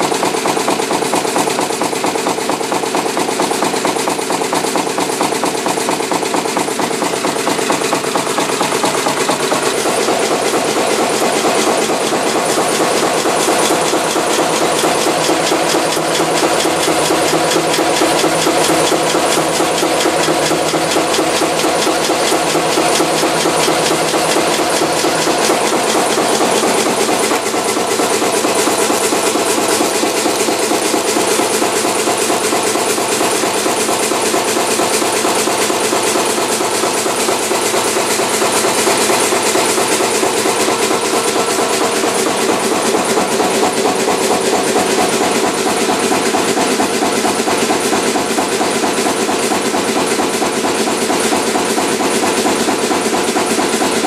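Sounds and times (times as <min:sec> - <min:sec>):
marine diesel engine running: 0:00.2 - 0:54.0.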